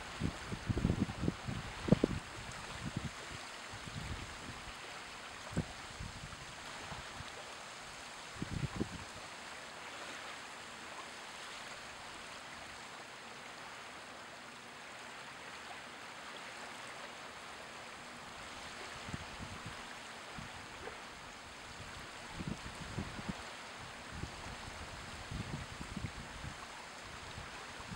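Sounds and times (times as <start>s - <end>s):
small waves lapping: 0.0s - 27.9s.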